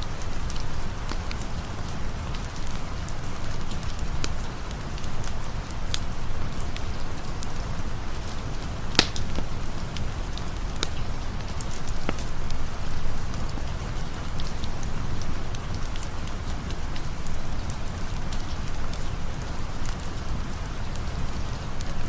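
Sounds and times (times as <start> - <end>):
campfire crackling and popping: 0.0 - 22.0
steady rain hiss: 0.0 - 22.0.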